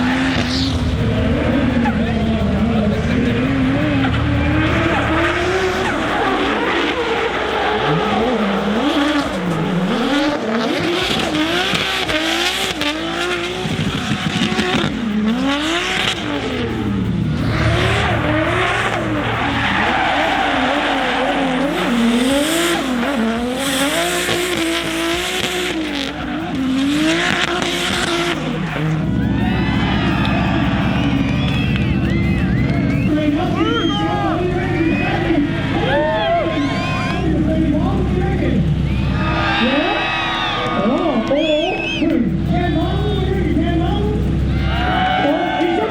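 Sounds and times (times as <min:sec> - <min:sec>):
car engines revving hard: 0:00.0 - 0:45.9
tyres squealing: 0:00.0 - 0:45.9.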